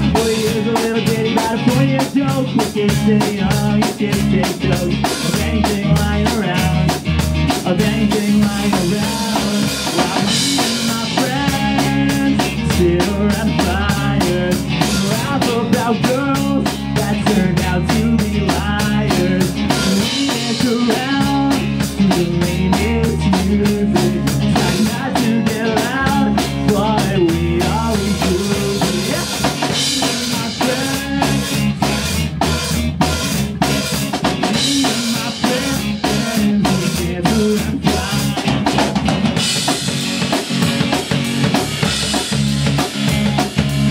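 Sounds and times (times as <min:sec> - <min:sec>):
drum kit beat: 0:00.0 - 0:43.9
pop-punk band playing live: 0:00.0 - 0:43.9.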